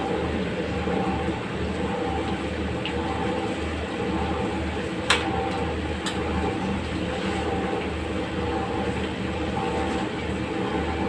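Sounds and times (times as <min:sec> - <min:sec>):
gas burner rumble: 0:00.0 - 0:11.0.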